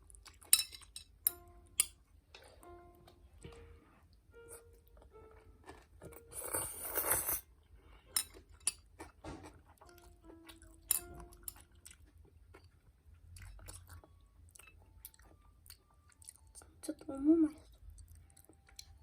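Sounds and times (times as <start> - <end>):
child chewing noodles: 0.0 - 1.0, 3.4 - 19.0.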